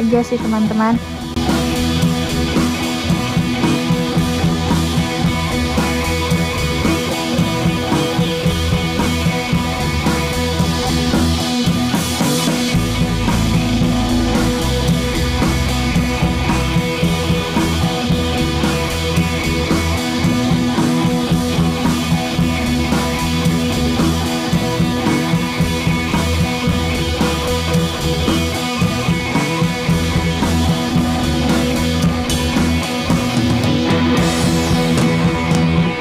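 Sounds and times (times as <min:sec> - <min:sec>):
rock music with guitar and drums: 0:00.0 - 0:36.0.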